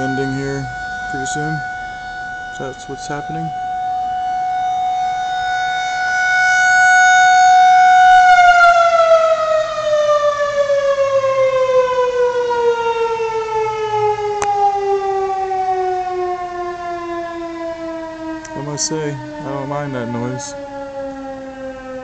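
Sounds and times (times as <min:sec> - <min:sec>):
air raid siren: 0:00.0 - 0:22.0.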